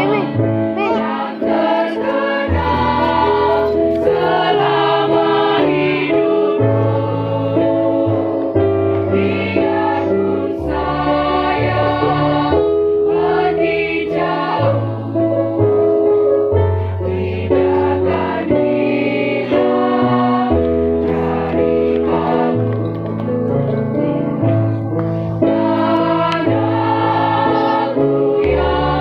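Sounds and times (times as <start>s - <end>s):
choir singing in harmony: 0.0s - 29.0s.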